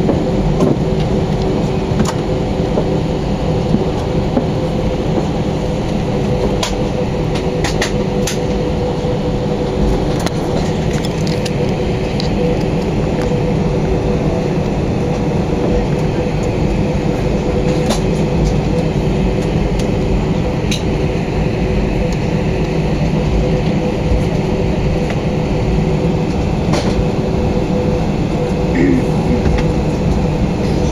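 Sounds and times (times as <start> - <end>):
aircraft engines droning in cabin: 0.0 - 30.9.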